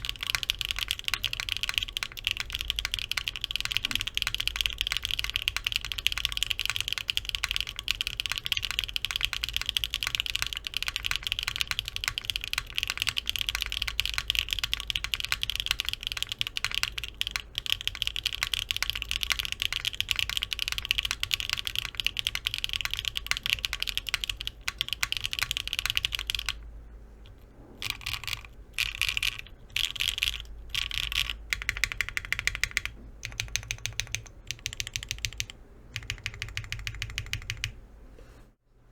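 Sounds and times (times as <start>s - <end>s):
keyboard typing: 0.0s - 37.8s.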